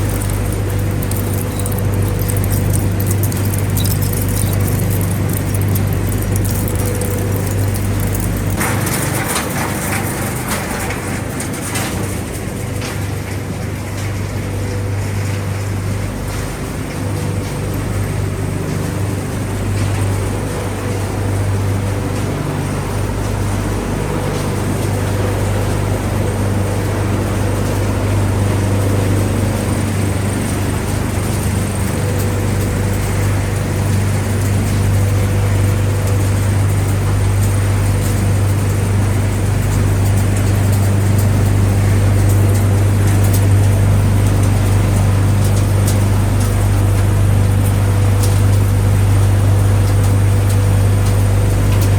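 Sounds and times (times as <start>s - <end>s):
low hum of motors: 0.0s - 51.9s
machine noise: 0.0s - 51.9s.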